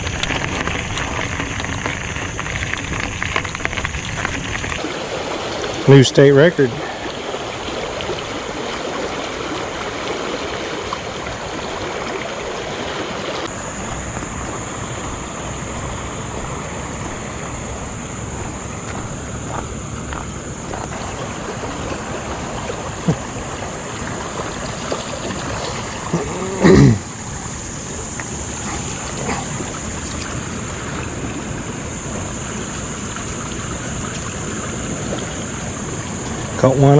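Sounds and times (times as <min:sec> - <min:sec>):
stream water flowing: 0:00.0 - 0:36.9.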